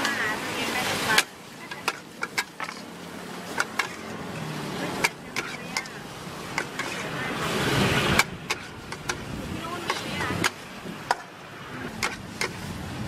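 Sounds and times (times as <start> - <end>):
metal spatula scraping a wok: 0.0 - 12.8
frying hiss: 0.0 - 13.0.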